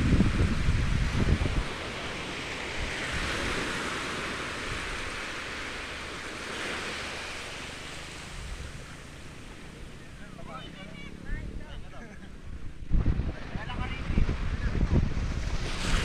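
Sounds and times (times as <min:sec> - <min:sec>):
surf washing up sand: 0:00.0 - 0:16.0.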